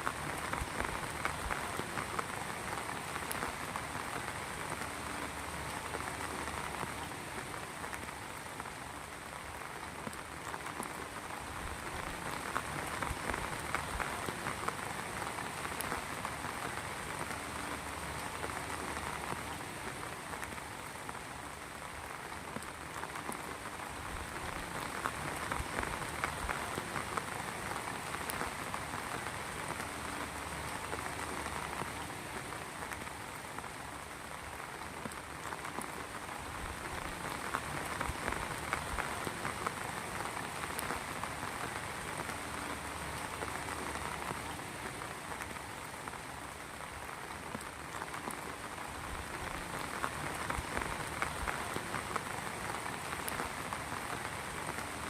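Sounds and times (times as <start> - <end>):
heavy rain pattering: 0.0 - 55.0.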